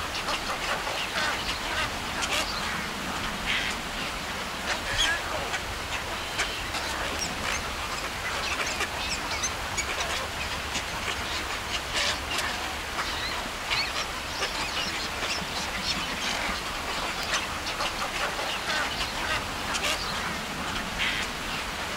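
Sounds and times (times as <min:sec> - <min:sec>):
steady background hiss: 0:00.0 - 0:21.9
waterbirds calling: 0:00.0 - 0:21.9.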